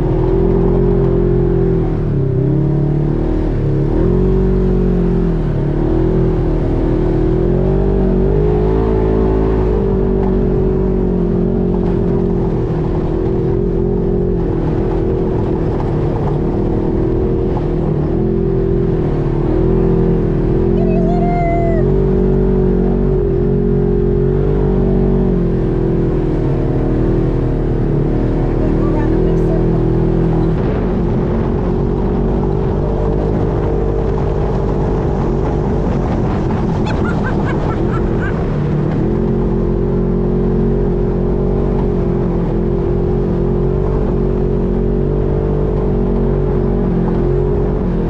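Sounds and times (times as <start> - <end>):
utility vehicle engine revving: 0.0 - 48.0.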